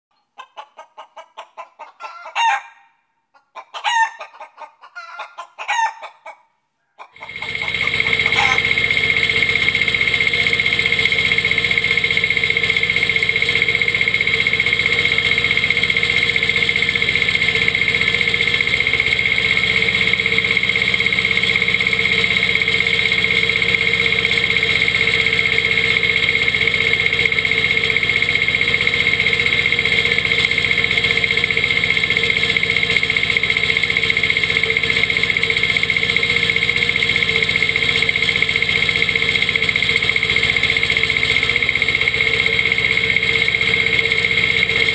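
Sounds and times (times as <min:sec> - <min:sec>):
mower high whine: 0:07.2 - 0:44.9
tractor diesel engine running: 0:07.2 - 0:44.9.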